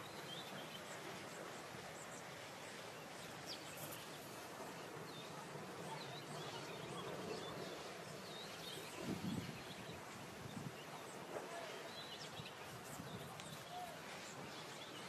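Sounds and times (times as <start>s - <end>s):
low outdoor rush: 0.0s - 15.0s.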